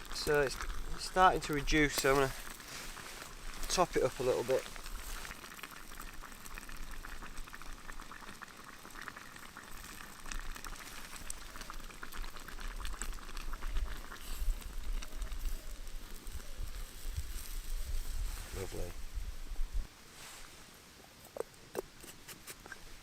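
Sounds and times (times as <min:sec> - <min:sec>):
stew bubbling in a pot: 0:00.0 - 0:19.9.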